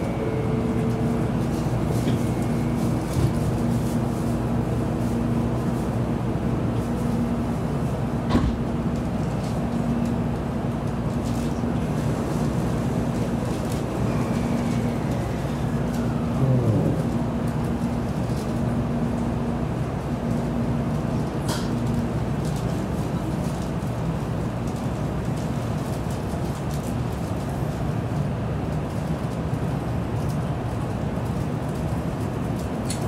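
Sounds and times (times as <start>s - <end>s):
train rumble inside carriage: 0.0s - 33.0s.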